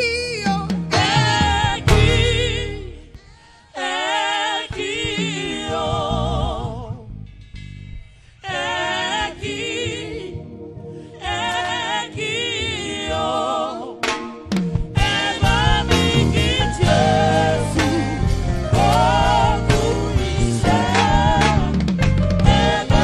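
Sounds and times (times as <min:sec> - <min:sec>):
gospel singing with vibrato: 0:00.0 - 0:07.4, 0:08.1 - 0:23.0.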